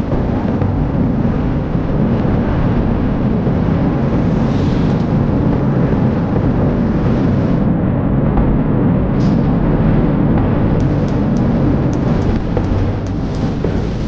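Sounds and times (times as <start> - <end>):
fireworks rumble: 0.0 - 7.7, 8.4 - 14.0.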